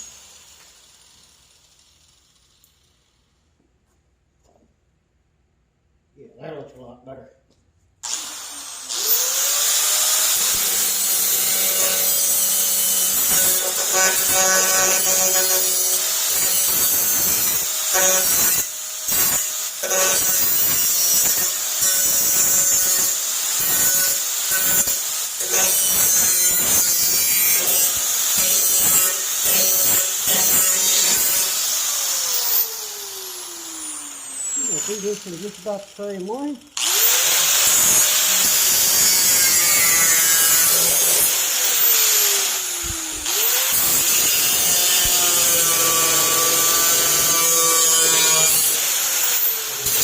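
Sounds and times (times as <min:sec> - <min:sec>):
cut-off wheel grinding metal: 0:08.1 - 0:50.0.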